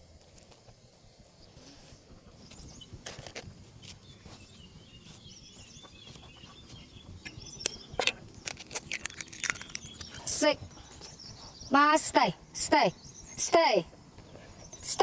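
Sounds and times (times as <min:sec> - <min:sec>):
faint bird chirping: 0:00.7 - 0:03.0, 0:03.8 - 0:15.0.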